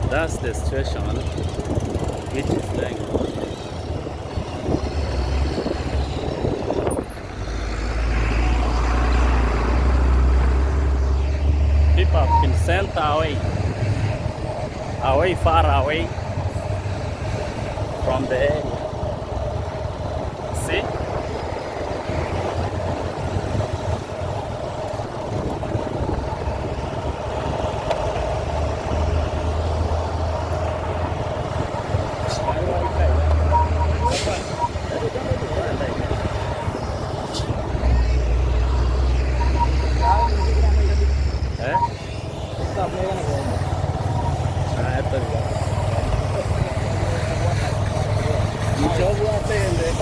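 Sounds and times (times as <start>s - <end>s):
road vehicle rumble: 0.0s - 50.0s.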